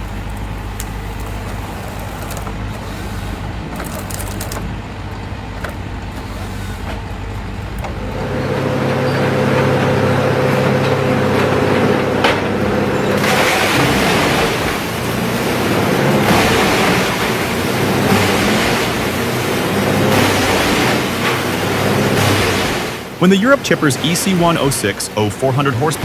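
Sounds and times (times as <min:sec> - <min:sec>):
heavy machinery engine running: 0:00.0 - 0:26.0
machine drone: 0:00.0 - 0:26.0
woodworking noise: 0:00.0 - 0:26.0.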